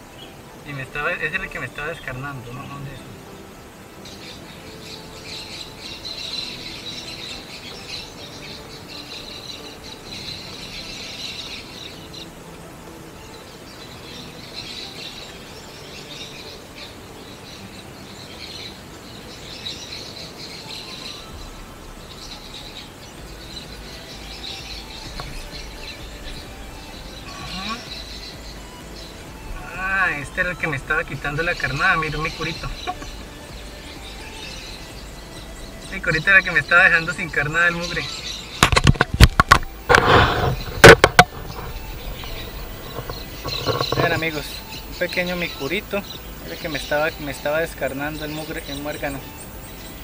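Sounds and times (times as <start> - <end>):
quiet outdoor ambience: 0.0 - 50.0.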